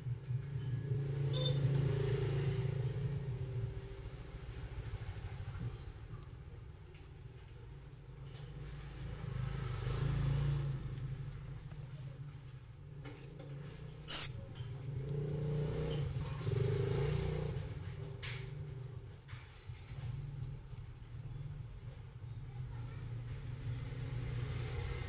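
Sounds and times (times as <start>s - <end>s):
low steady rumble: 0.0s - 9.4s, 10.5s - 25.0s.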